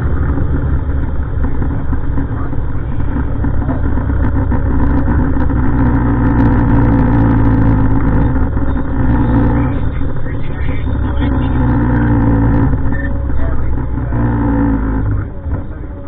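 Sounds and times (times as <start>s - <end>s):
diesel garbage truck engine: 0.0s - 16.0s.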